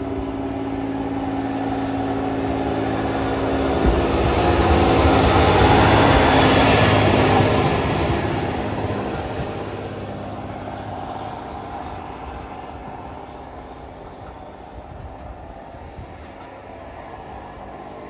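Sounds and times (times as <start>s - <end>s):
diesel train passing: 0.0s - 18.0s.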